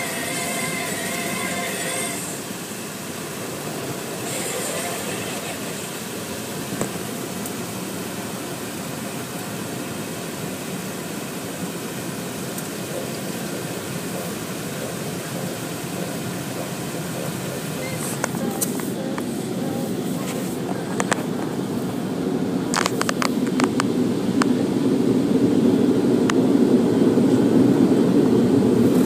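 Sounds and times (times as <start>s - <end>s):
car wash air dryers rushing: 0.0s - 29.0s.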